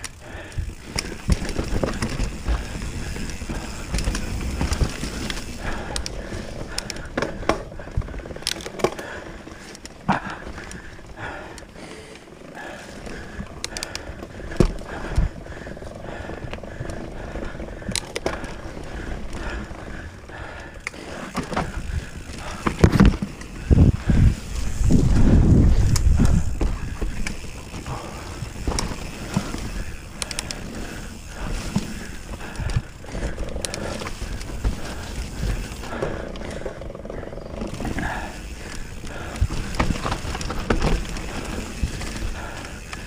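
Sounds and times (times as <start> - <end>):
bike knocking and rattling: 0.0 - 43.0
bike tyres rolling over rocks: 0.0 - 43.0.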